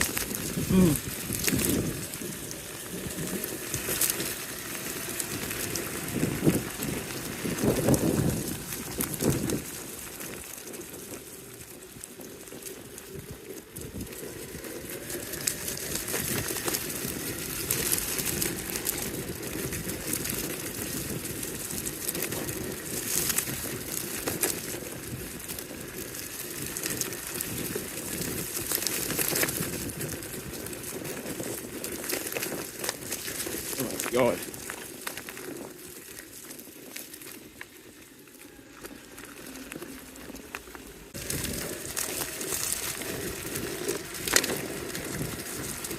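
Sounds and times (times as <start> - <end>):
twigs and gravel crackling: 0.0 - 45.9
tyres rumbling on dirt: 0.0 - 45.9.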